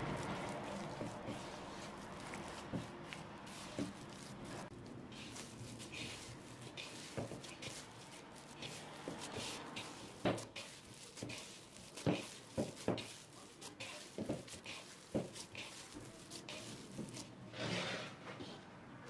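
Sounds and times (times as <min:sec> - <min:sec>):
hands kneading dough: 0:00.0 - 0:17.9
rustling of flour: 0:00.0 - 0:18.6.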